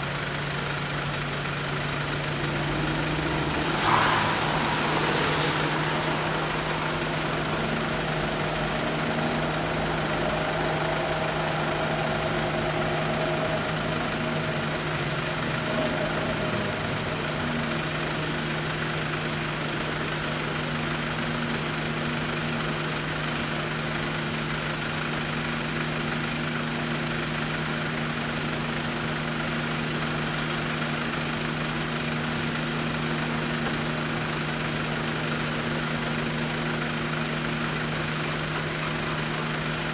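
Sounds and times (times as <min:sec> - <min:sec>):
vehicle engines idling: 0:00.0 - 0:39.9.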